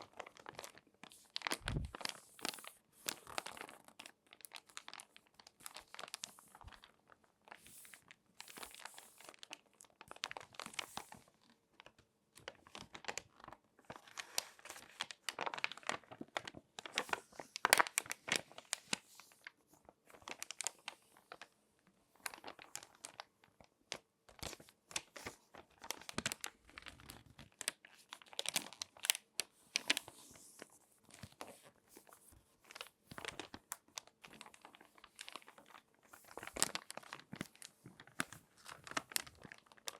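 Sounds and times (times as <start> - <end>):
magazine pages crinkling: 0.0 - 21.5, 22.2 - 39.9.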